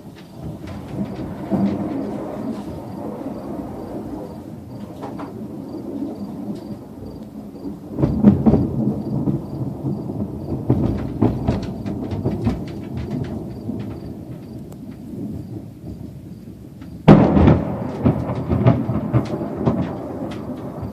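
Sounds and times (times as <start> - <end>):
thunder cracking and rumbling: 0.0 - 20.9.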